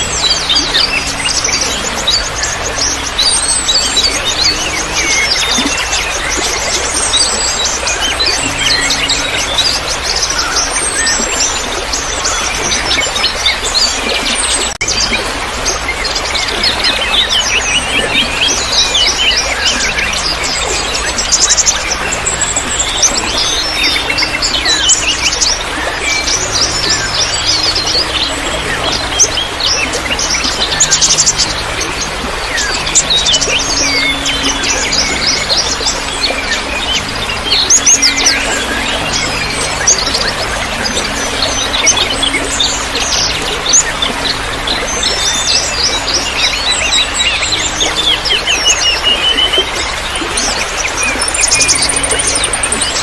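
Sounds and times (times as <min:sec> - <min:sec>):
small birds chirping and trilling: 0:00.0 - 0:53.0
water trickling: 0:00.0 - 0:53.0.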